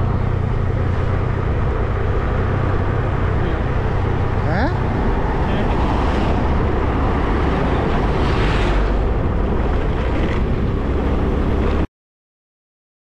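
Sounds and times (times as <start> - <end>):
moving vehicle road noise: 0.0 - 11.9.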